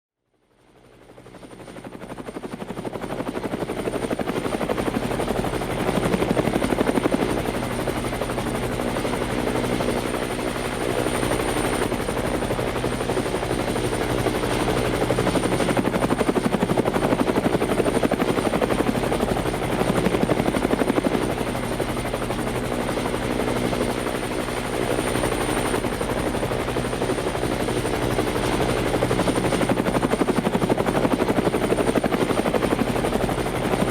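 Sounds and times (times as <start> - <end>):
helicopter rotor and engine: 0.3 - 33.9.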